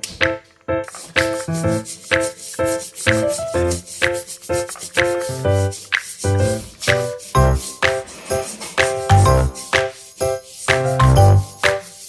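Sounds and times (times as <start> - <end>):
music with steady beat: 0.0 - 12.0
light jingling percussion: 0.8 - 12.0.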